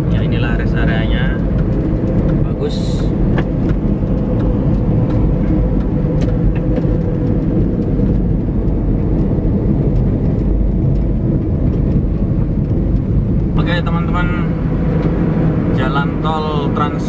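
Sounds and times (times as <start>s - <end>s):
tyre and engine rumble: 0.0s - 17.0s.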